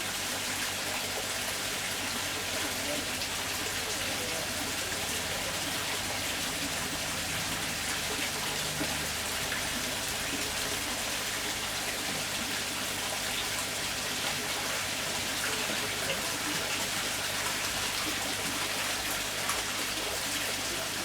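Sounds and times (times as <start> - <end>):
falling water splashing: 0.0 - 21.0.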